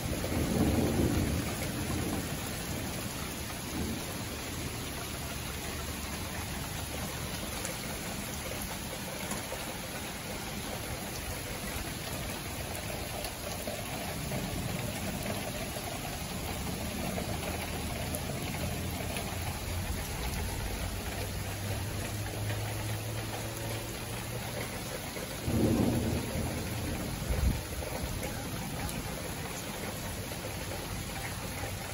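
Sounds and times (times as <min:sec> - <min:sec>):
low thunder rumbling: 0:00.0 - 0:23.2, 0:23.8 - 0:31.1
steady rain falling: 0:00.0 - 0:31.9.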